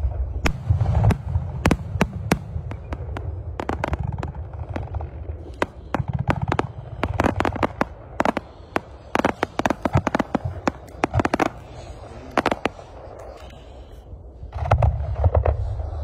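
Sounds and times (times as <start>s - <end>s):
low rumble: 0.0s - 16.0s
firework shells bursting: 0.5s - 13.6s.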